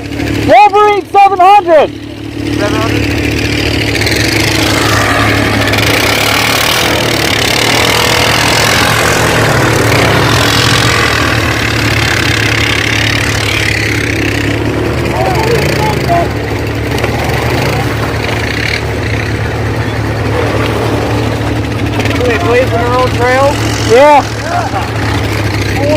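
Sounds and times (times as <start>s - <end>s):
off-road vehicle engine running: 0.0s - 25.9s.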